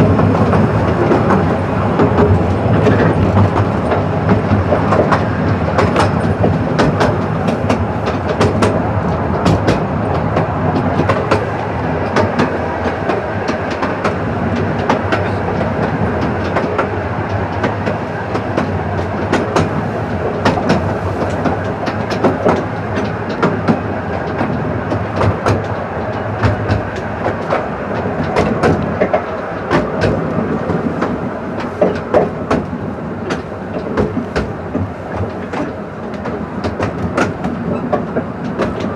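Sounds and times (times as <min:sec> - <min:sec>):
railway carriage rolling rumble: 0:00.0 - 0:38.9
wheels clicking over rail joints: 0:00.0 - 0:38.9.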